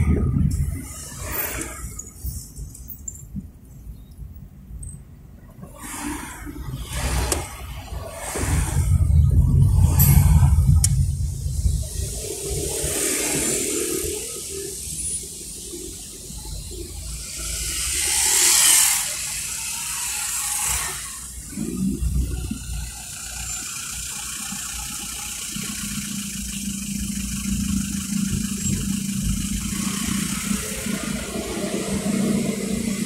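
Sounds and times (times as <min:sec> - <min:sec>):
traffic rushing hiss: 0:00.0 - 0:03.0, 0:05.6 - 0:33.0
car engine hum: 0:00.0 - 0:33.0.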